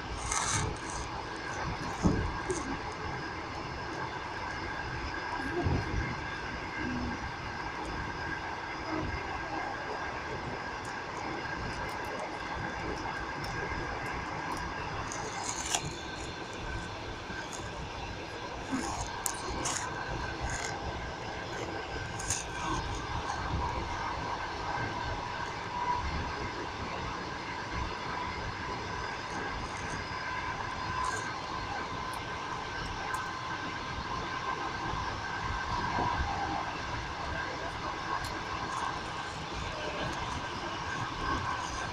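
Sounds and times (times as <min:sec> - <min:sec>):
faint steady whine: 0:00.0 - 0:41.9.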